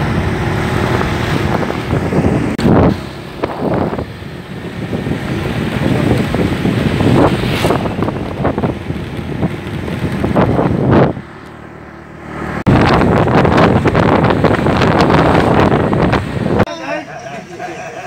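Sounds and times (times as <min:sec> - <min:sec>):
wind buffeting microphone: 0:00.0 - 0:11.4, 0:12.6 - 0:16.7
motorcycle ride rumble: 0:00.0 - 0:18.0.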